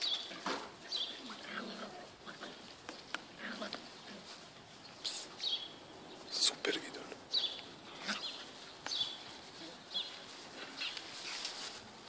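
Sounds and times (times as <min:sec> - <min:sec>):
small bird chirping: 0:00.0 - 0:06.5, 0:07.3 - 0:11.1.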